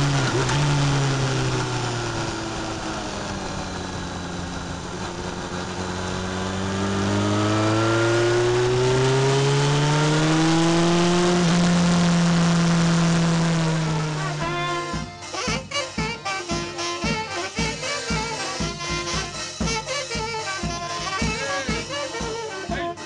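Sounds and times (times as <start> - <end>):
motorcycle engine: 0.0 - 23.0.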